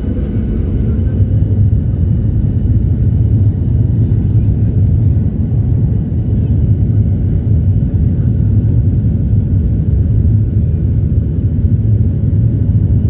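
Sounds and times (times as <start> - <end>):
plane engines rumbling: 0.0 - 13.0.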